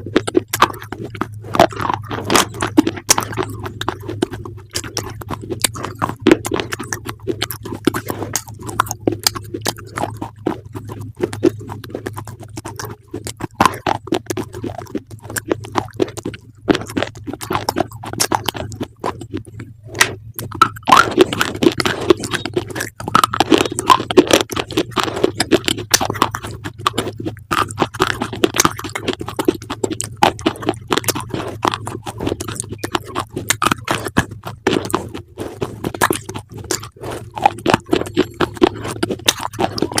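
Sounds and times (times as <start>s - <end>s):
chewing crisp food: 0.0s - 40.0s
faint low hum: 0.0s - 40.0s.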